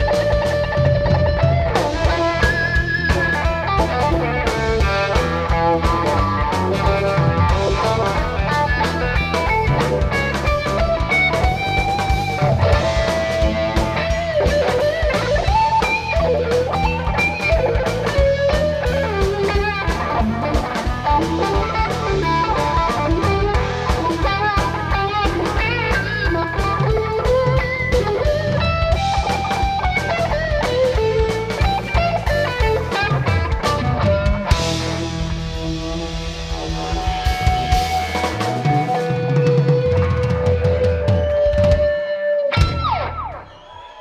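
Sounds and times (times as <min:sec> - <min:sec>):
bass guitar: 0:00.0 - 0:44.0
drum kit: 0:00.0 - 0:44.0
electric guitar lead: 0:00.0 - 0:44.0.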